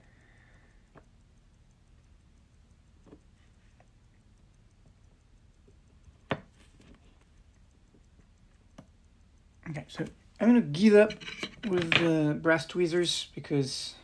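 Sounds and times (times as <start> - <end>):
tweezers clicking on watch movement: 0.0 - 12.5.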